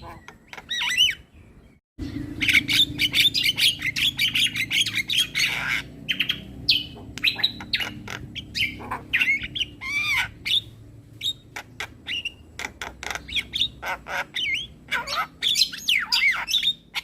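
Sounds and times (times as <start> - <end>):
myna calling: 2.4 - 17.0.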